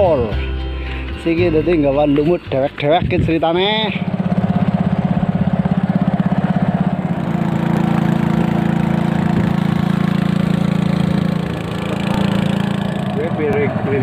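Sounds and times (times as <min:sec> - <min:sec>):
boat engine droning: 0:01.7 - 0:14.0.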